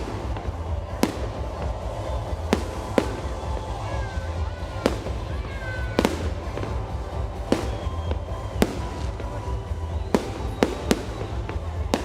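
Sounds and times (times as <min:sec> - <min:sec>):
fireworks bangs: 0:00.0 - 0:12.0
fireworks whistling: 0:00.0 - 0:12.0.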